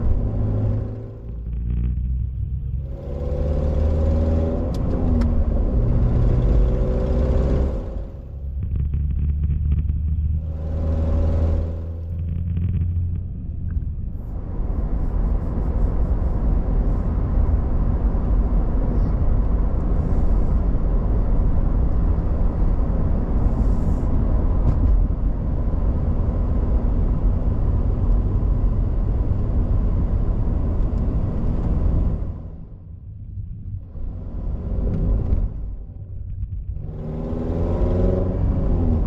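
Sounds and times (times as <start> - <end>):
car engine hum: 0.0 - 39.0.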